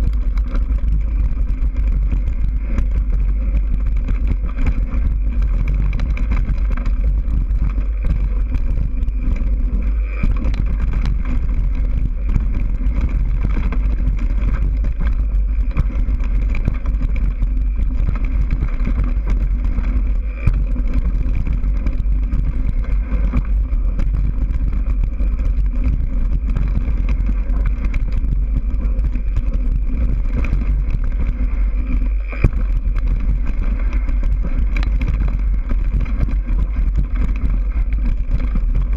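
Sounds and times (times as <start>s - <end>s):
bike rattling over dirt trail: 0.0s - 38.9s
wind buffeting microphone: 0.0s - 38.9s.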